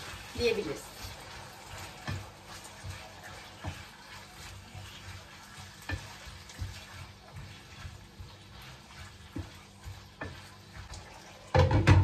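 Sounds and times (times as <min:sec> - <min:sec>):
chicken sizzling in a frying pan: 0:00.0 - 0:12.0
spatula scraping a pan: 0:00.0 - 0:12.0.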